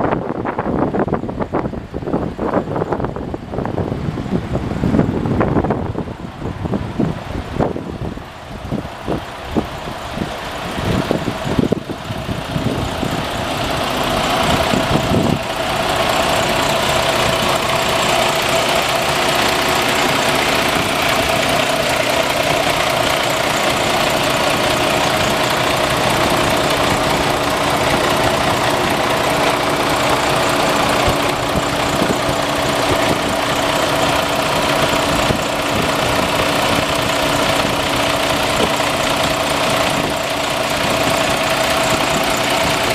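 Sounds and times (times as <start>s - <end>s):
diesel truck engine idling: 0.0s - 42.9s
steady whine: 0.0s - 42.9s.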